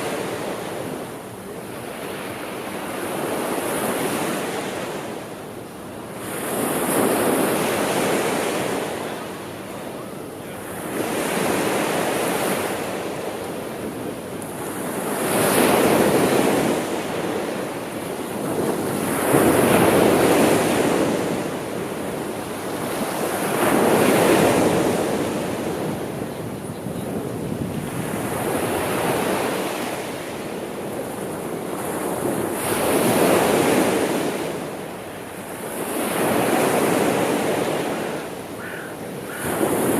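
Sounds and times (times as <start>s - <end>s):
sea waves breaking on shore: 0.0s - 39.9s
wind: 0.0s - 39.9s.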